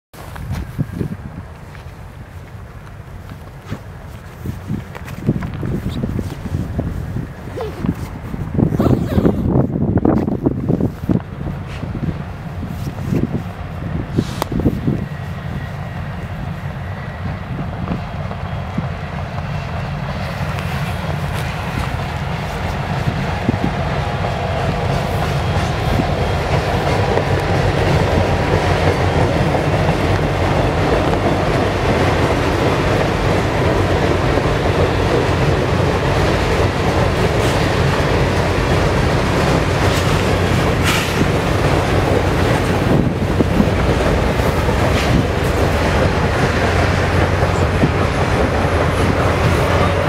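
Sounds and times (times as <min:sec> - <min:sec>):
train wheels on rails: 0:00.1 - 0:50.0.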